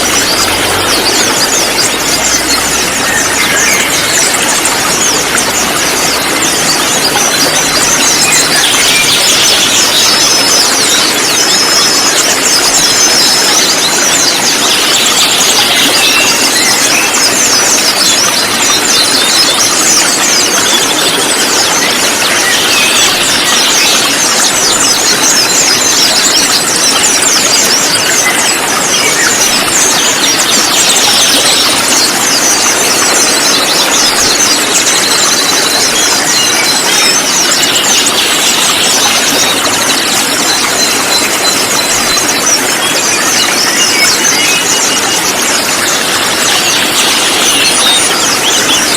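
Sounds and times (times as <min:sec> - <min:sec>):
flock of birds chirping: 0:00.0 - 0:48.9.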